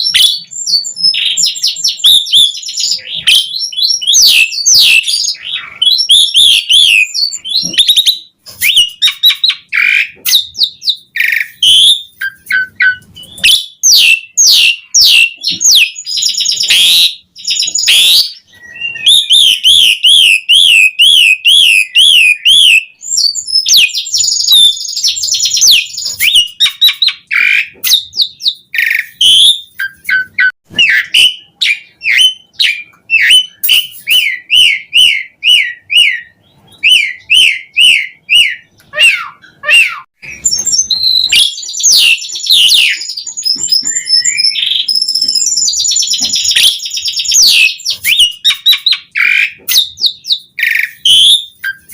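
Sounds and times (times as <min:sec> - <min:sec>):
starling singing: 0:00.0 - 0:51.9.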